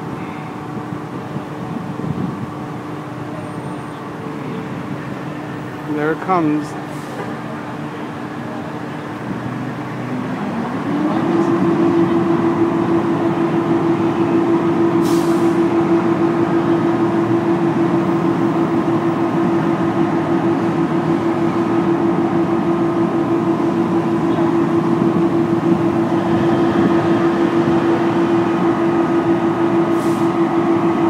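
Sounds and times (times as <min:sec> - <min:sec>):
fire truck engine humming: 0:00.0 - 0:31.0.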